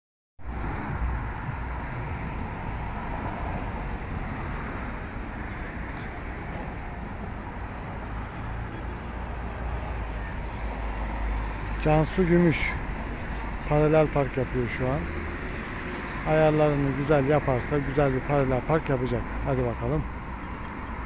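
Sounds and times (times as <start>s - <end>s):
cars driving by: 0.4s - 21.0s.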